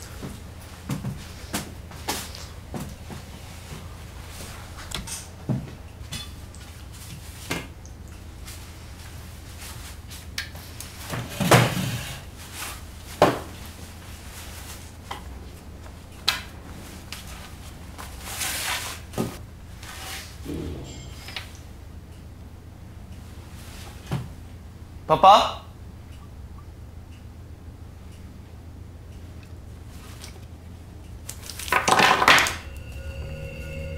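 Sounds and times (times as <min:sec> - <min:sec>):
steady low hum: 0:00.0 - 0:18.4, 0:19.0 - 0:33.9.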